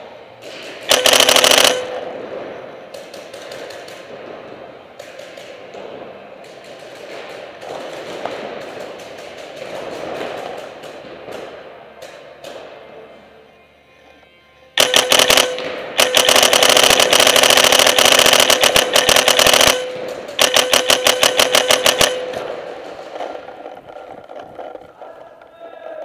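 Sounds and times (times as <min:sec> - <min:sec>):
paintball markers firing: 0:00.4 - 0:02.2, 0:02.9 - 0:04.2, 0:05.0 - 0:12.7, 0:14.8 - 0:26.0.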